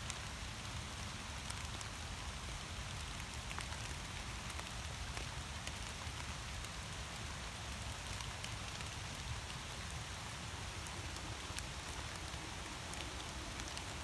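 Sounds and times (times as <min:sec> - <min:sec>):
rain falling: 0:00.1 - 0:14.0.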